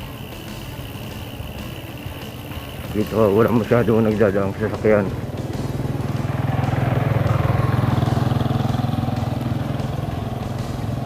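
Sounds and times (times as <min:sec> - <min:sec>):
motorcycle engine passing by: 0:00.0 - 0:11.0.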